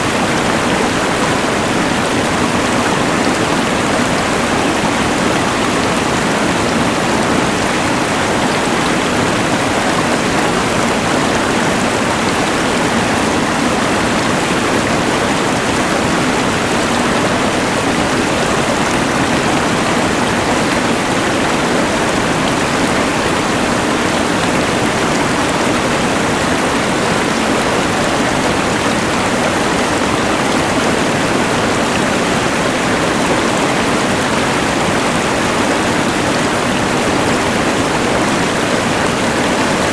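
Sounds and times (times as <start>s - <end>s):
rushing river: 0.0s - 39.9s.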